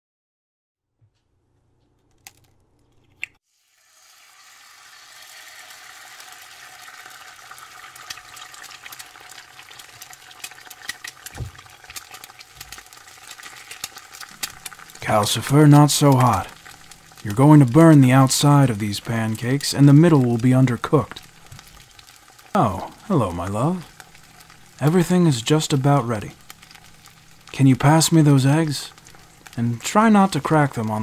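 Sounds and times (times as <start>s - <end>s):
pancakes sizzling with crackling pops: 3.4s - 31.0s.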